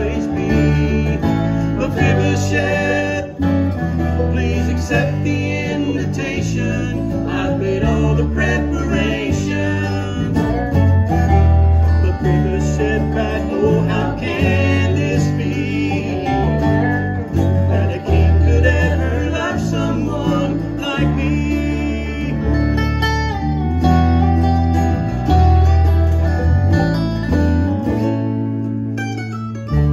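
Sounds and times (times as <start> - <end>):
acoustic guitars playing: 0.0 - 29.9
electric bass line: 0.0 - 29.9.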